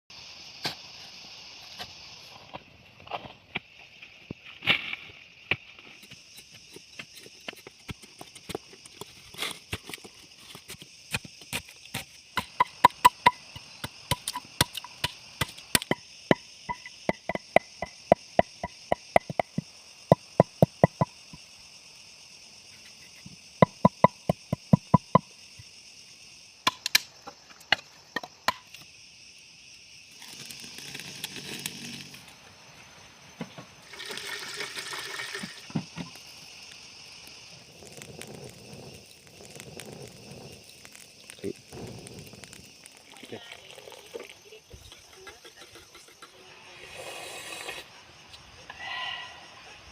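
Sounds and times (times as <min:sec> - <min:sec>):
insects chirring: 0:00.1 - 0:49.9.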